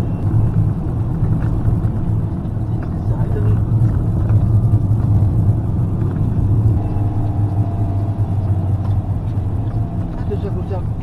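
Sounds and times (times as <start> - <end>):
motorhome engine drone: 0.0 - 11.0.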